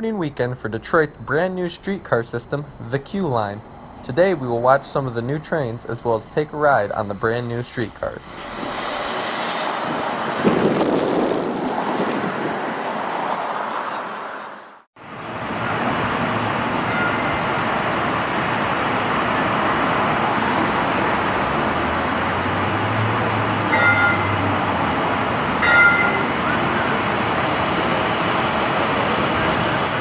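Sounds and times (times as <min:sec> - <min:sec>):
city street traffic: 0:00.0 - 0:30.0
streetcar humming: 0:00.0 - 0:30.0.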